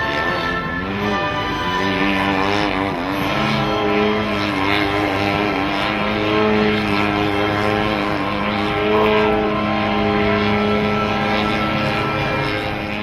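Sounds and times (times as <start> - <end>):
model plane engine and propeller: 0.0 - 13.0.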